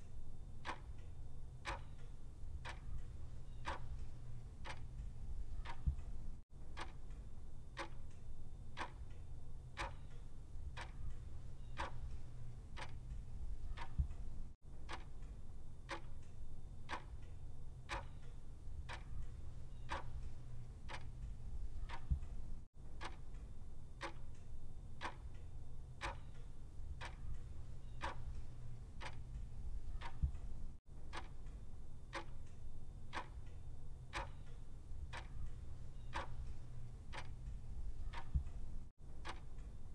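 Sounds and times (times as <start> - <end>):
low steady hum: 0.0 - 39.9
clock ticking: 0.6 - 7.2, 7.8 - 8.2, 8.8 - 9.2, 9.8 - 16.3, 16.9 - 17.3, 17.9 - 24.4, 25.0 - 25.4, 26.0 - 39.8.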